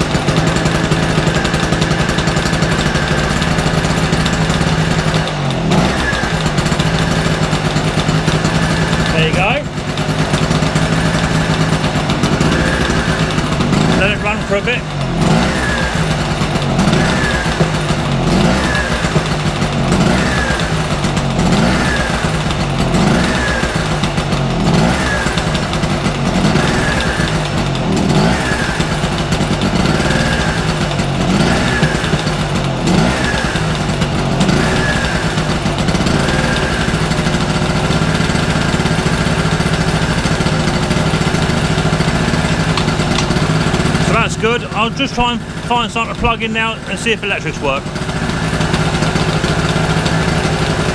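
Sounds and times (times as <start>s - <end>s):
generator engine surging: 0.0s - 50.9s.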